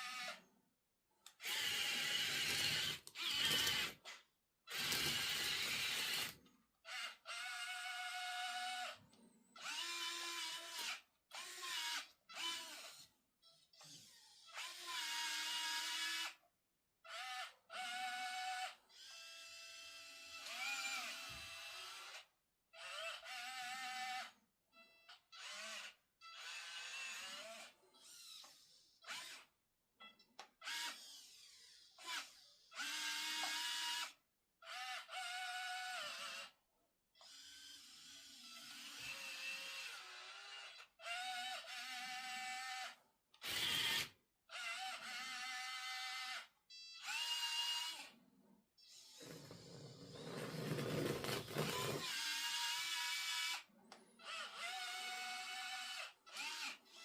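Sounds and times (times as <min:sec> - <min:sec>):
small electric motors whining: 0:01.3 - 0:16.4, 0:17.1 - 0:29.5, 0:30.4 - 0:36.6, 0:37.2 - 0:48.2, 0:48.8 - 0:57.0.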